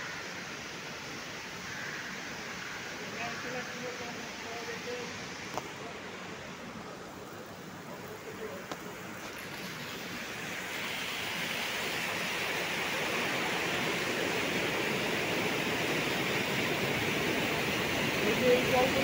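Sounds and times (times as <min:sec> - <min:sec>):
water rushing and splashing: 0:00.0 - 0:19.0.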